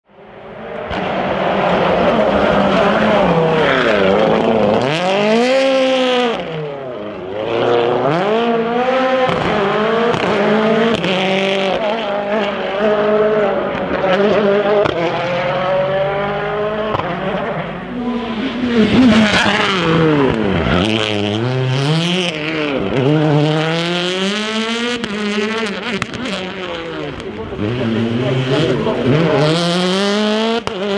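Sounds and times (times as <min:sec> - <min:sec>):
cars passing: 0:00.1 - 0:30.9
rally car engines revving: 0:00.2 - 0:30.9.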